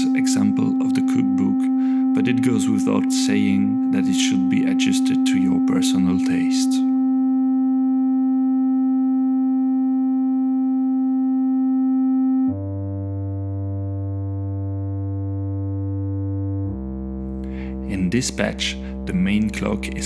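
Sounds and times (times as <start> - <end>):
synthesizer holding notes: 0.0 - 20.0.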